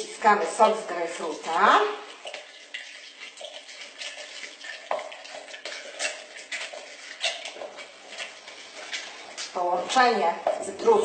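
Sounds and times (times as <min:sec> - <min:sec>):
fruit squelching on citrus reamer: 0:00.0 - 0:11.0.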